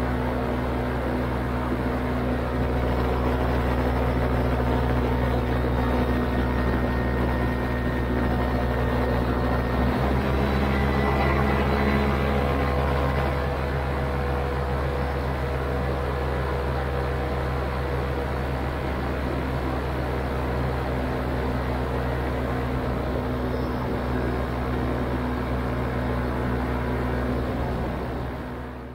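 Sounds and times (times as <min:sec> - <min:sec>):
paramotor engine and propeller droning: 0:00.0 - 0:28.9.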